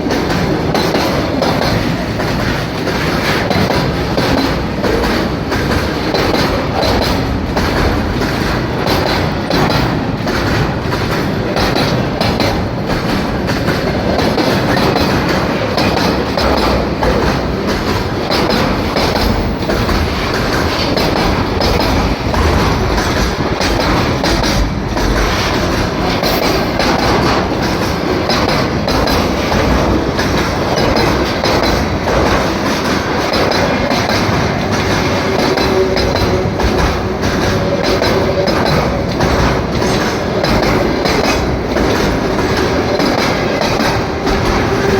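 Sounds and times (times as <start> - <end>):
train wheels clattering over rail joints: 0.0 - 44.9.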